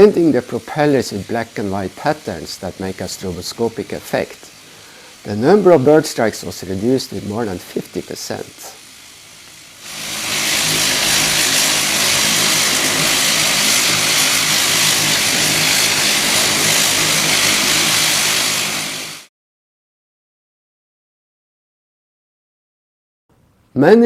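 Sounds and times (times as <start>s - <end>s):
turboprop engines hissing: 0.0s - 19.3s.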